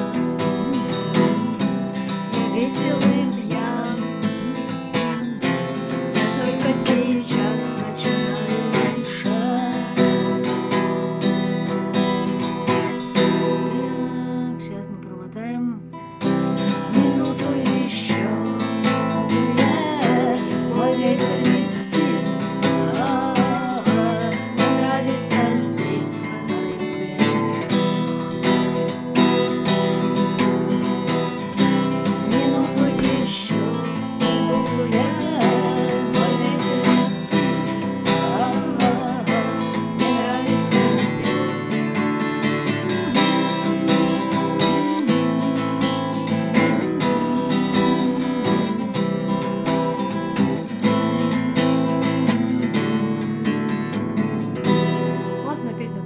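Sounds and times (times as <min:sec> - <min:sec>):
two women singing: 0:00.0 - 0:53.8
acoustic guitar strumming: 0:00.0 - 0:56.0.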